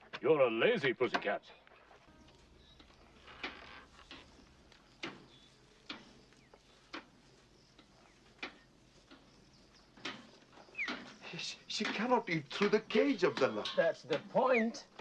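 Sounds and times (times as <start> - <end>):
faint footsteps on dirt: 1.1 - 15.0.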